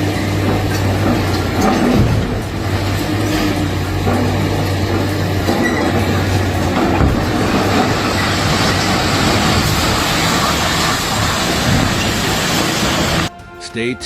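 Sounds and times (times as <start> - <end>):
heavy machine engine droning: 0.0 - 14.0.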